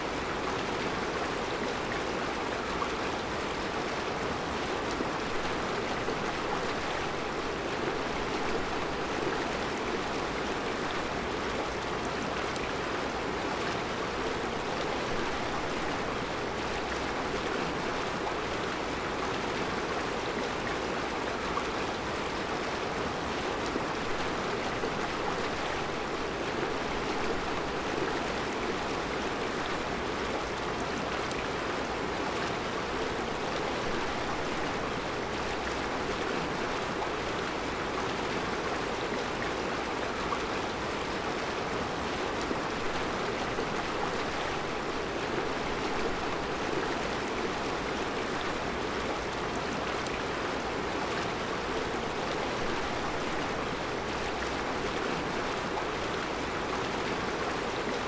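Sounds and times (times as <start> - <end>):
river flowing over rocks: 0.0 - 58.0.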